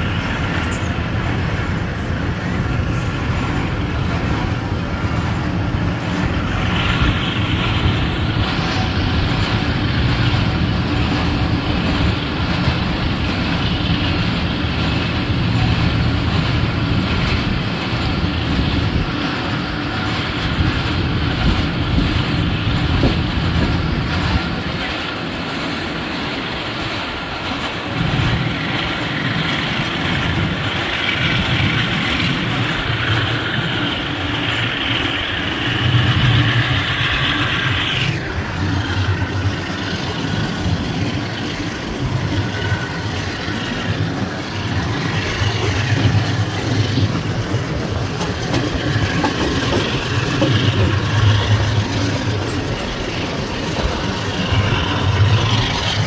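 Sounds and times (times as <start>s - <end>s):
rushing air: 0.0s - 56.0s
train wheels rumbling on rail: 0.0s - 56.0s.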